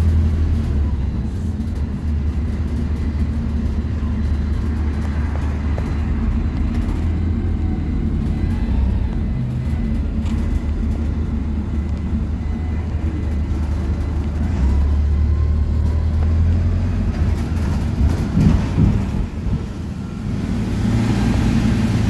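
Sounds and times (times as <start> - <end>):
bus engine and road drone: 0.0 - 22.0.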